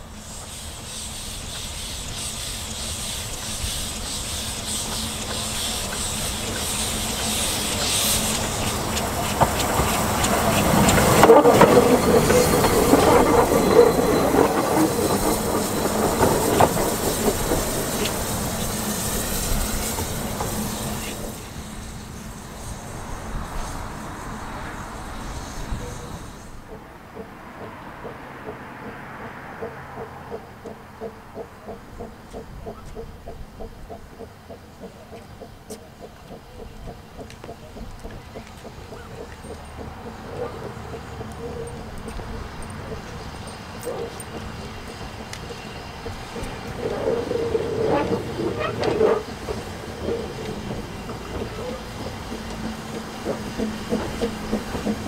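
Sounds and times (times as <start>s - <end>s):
steam hissing: 0.0s - 55.0s
train wheels clicking over rail joints: 0.0s - 55.0s.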